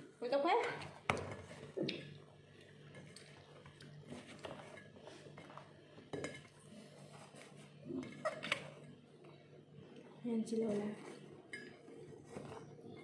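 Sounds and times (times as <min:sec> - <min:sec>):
hands mixing food in steel bowl: 0:00.2 - 0:13.0.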